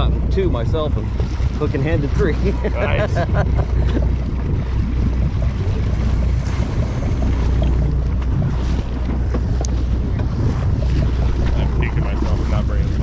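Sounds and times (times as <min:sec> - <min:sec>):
boat engine rumbling: 0:00.0 - 0:13.0
wind buffeting microphone: 0:00.0 - 0:13.0.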